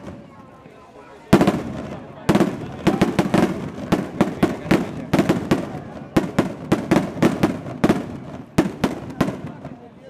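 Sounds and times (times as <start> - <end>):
firework rockets banging: 1.3 - 9.8.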